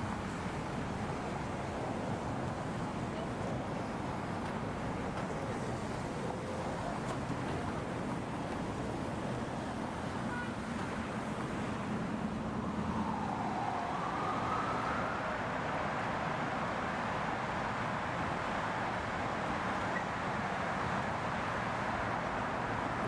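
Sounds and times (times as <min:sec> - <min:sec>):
passing cars: 0:00.0 - 0:23.0.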